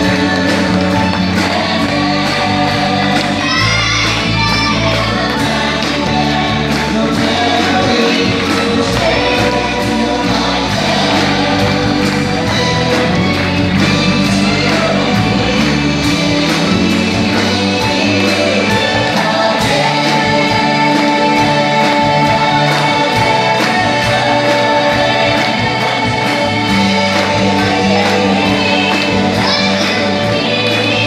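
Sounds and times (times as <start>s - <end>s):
cast singing together: 0.0s - 31.0s
drums keeping steady beat: 0.0s - 31.0s
live band with drums: 0.0s - 31.0s.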